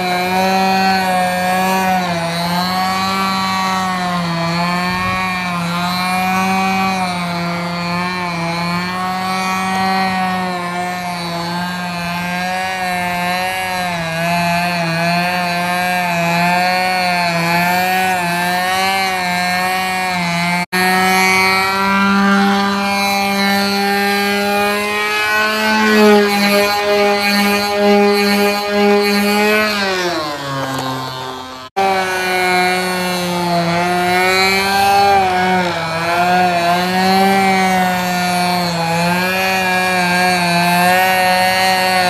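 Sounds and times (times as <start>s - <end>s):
model airplane engine wavering: 0.0s - 42.0s.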